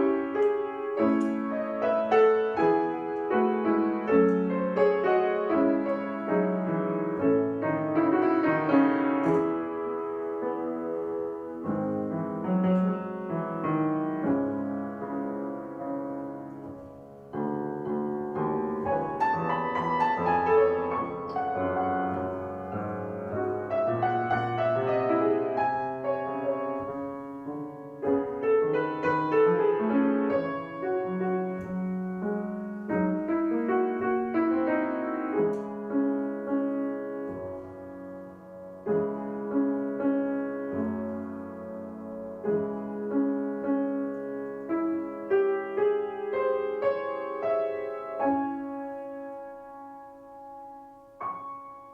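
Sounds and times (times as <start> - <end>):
piano piece: 0.0 - 51.9.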